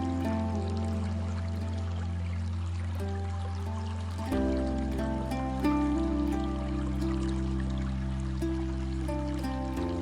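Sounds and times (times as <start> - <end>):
faint trickling water: 0.0 - 10.0
slow ambient music: 0.0 - 10.0.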